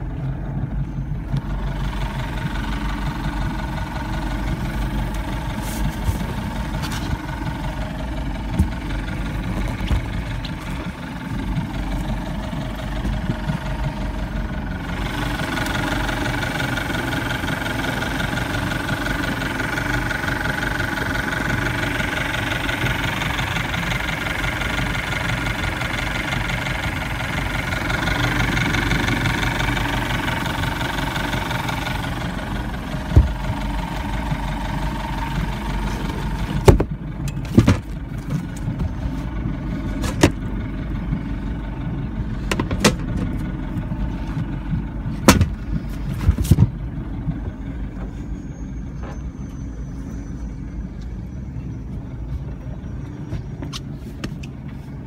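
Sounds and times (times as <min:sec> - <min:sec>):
boat engine idling: 0:00.0 - 0:55.0.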